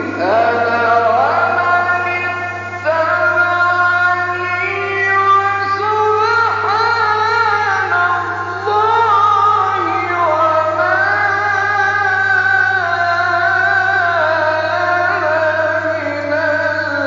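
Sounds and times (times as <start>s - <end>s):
man chanting melodically: 0.0s - 17.0s
steady low hum: 0.0s - 17.0s.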